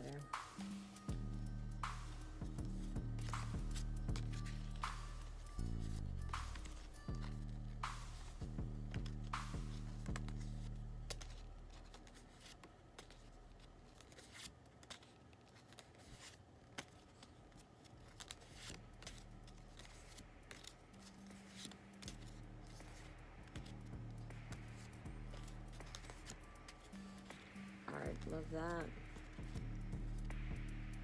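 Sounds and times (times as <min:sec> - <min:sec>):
cards being flipped: 0:01.8 - 0:31.0.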